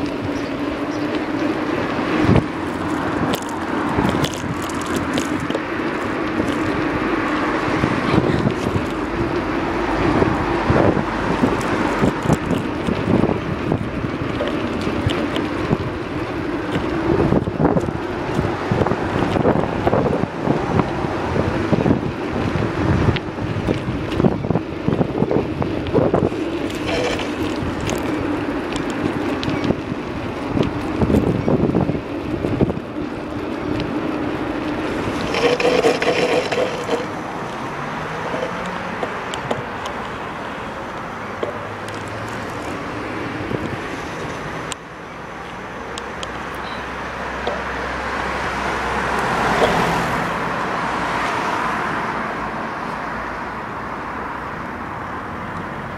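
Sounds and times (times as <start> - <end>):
wind buffeting microphone: 0.0 - 52.8.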